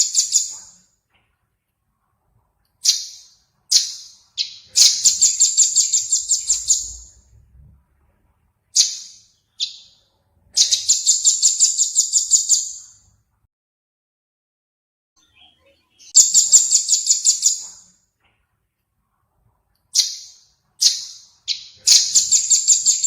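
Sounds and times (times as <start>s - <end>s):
songbird chirping: 0.0s - 1.4s, 2.0s - 13.2s, 15.2s - 18.6s, 19.4s - 23.0s.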